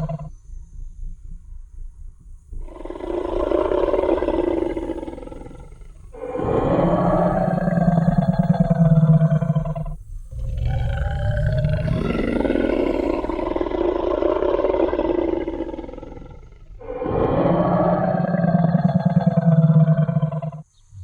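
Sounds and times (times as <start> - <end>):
dinosaur roar: 0.0 - 0.3, 2.6 - 20.6.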